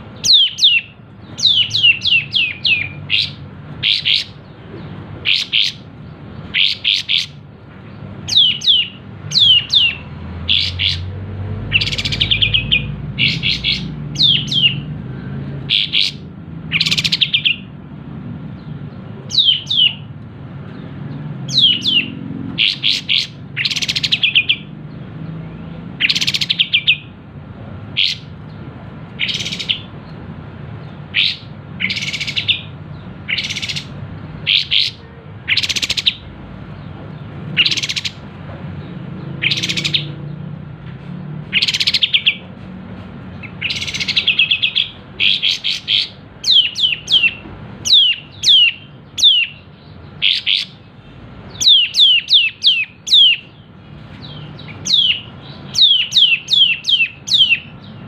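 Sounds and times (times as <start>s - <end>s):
bird chirping: 0.0s - 27.2s, 27.8s - 40.5s, 41.5s - 42.6s, 43.3s - 58.0s.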